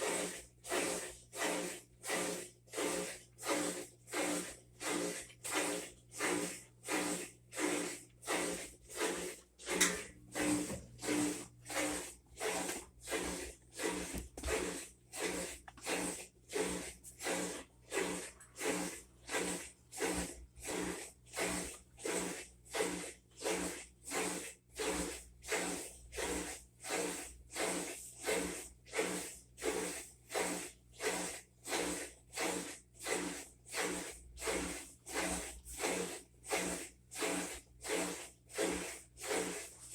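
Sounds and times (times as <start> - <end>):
washing machine agitating: 0.0 - 39.9.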